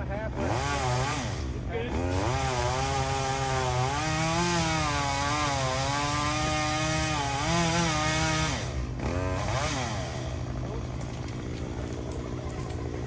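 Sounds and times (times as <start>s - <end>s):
chainsaw cutting wood: 0.2s - 13.0s.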